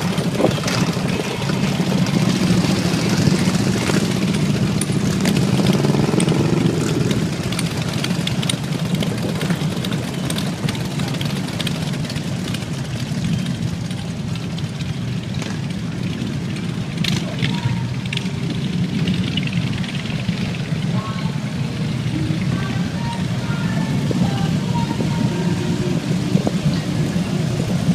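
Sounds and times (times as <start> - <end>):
motorcycle engines running: 0.0 - 27.9.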